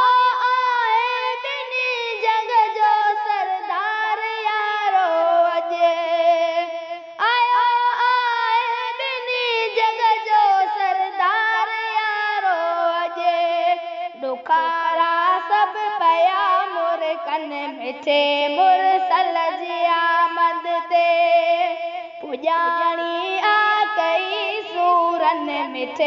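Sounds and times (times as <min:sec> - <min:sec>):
high-pitched wordless singing: 0:00.0 - 0:26.0.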